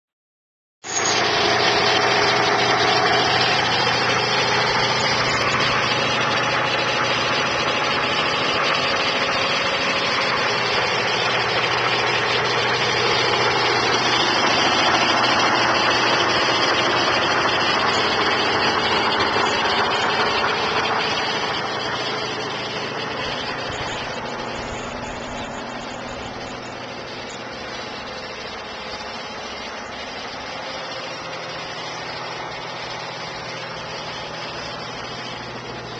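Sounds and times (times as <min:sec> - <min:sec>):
engine running steadily: 0:00.8 - 0:35.9.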